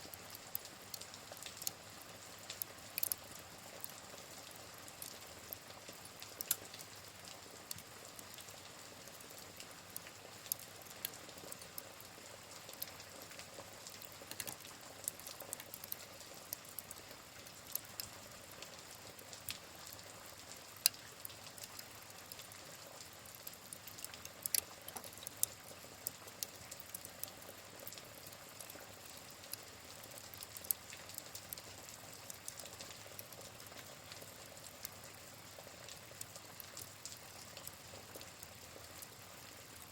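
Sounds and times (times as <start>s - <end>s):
soft hiss of rain: 0.0s - 39.9s
wood fire crackling and popping: 0.1s - 34.9s.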